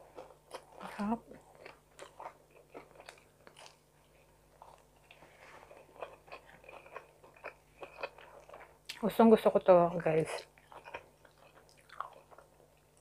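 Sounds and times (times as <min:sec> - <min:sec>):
quiet crunchy chewing: 0:00.0 - 0:09.0, 0:09.9 - 0:13.0.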